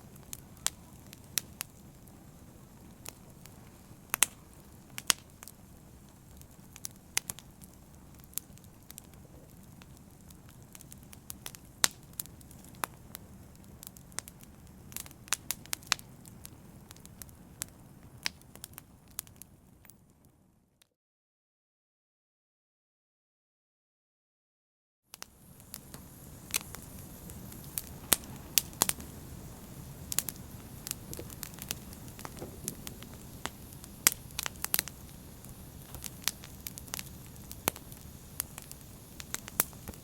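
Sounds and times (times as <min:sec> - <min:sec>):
fire crackling and popping: 0:00.0 - 0:20.4, 0:25.1 - 0:40.0
low rumble of flame: 0:00.0 - 0:20.5, 0:25.2 - 0:40.0.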